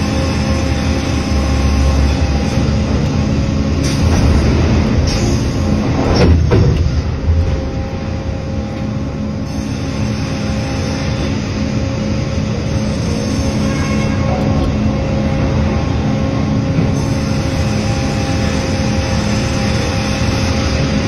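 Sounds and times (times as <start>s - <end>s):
band sawmill hum and rumble: 0.0s - 21.0s.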